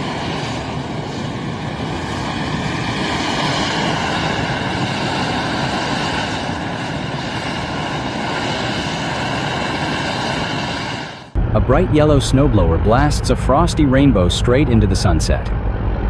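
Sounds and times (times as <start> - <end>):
machine engine and blowing noise: 0.0 - 16.0.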